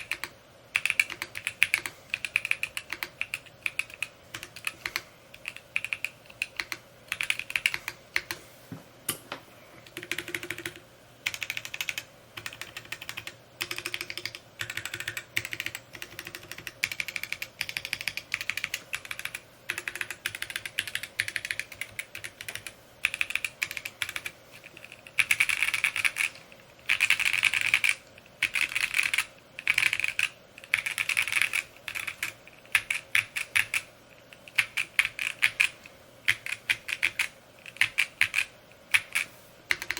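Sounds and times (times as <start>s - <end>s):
mechanical keyboard typing: 0.0s - 8.4s, 9.9s - 39.9s.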